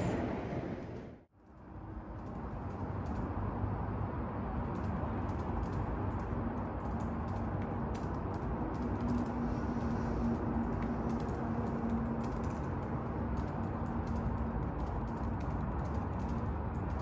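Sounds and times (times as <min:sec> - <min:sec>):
laptop keyboard typing: 0:02.1 - 0:03.3, 0:04.6 - 0:17.0.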